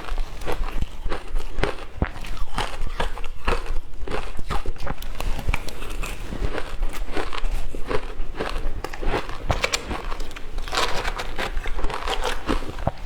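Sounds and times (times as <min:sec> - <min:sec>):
chewing shaved ice: 0:00.0 - 0:13.0.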